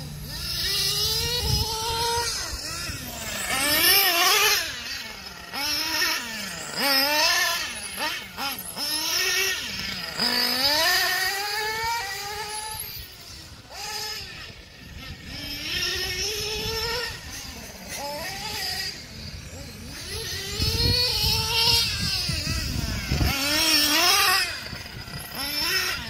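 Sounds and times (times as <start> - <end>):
small engines revving: 0.0 - 26.0.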